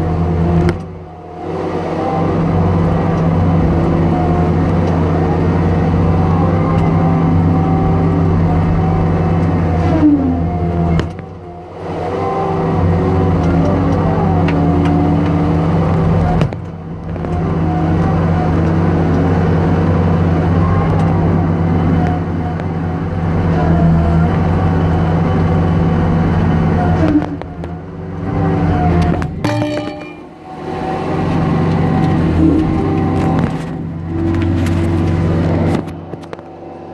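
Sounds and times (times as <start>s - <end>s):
heavy machine engine droning: 0.0s - 36.9s.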